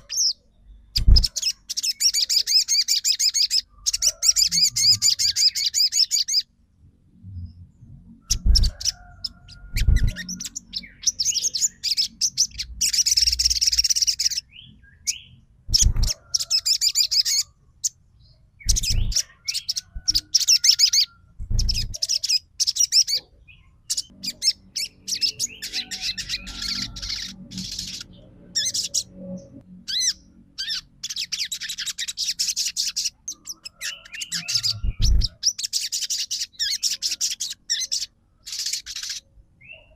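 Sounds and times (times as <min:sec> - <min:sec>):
songbird chattering trills: 0:00.0 - 0:06.4, 0:08.3 - 0:18.0, 0:18.6 - 0:29.2, 0:29.9 - 0:39.9.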